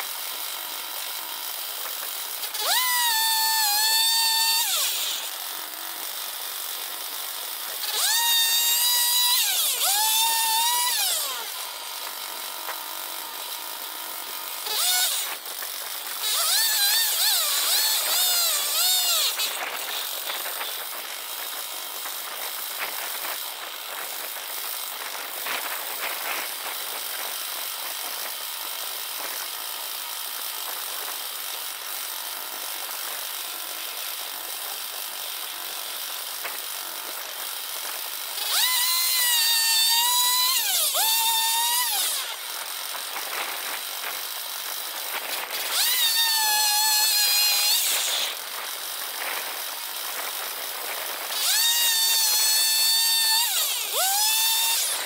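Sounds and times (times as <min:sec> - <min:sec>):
chainsaw running and revving: 0:00.0 - 0:55.0.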